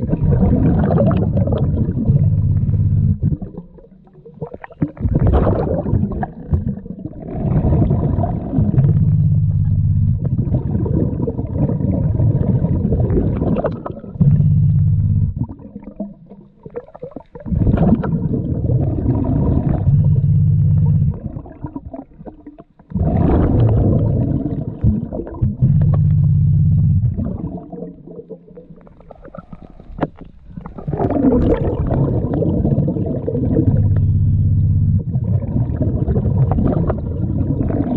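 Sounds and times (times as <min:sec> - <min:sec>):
gurgling exhaled bubbles: 0:00.0 - 0:37.9.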